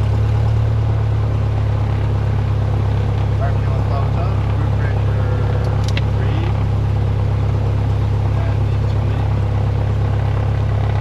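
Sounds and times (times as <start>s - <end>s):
piston aircraft engine idling: 0.0s - 11.0s.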